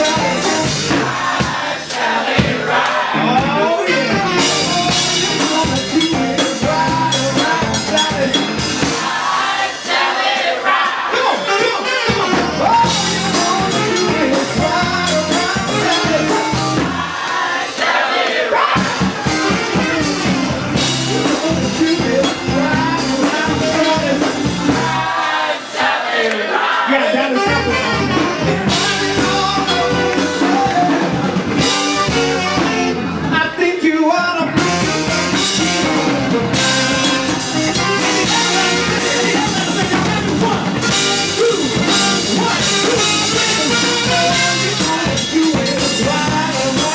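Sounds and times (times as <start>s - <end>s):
live blues band playing: 0.0s - 18.0s, 18.6s - 25.4s, 27.1s - 46.9s.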